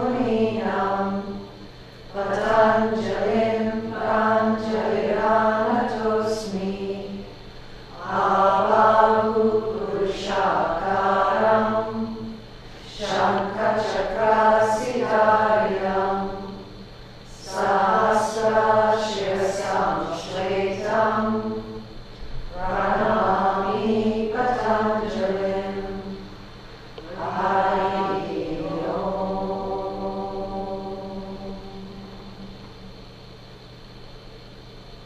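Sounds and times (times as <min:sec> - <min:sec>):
group chanting: 0:00.0 - 0:07.3, 0:07.9 - 0:21.8, 0:22.5 - 0:26.3, 0:27.0 - 0:32.4.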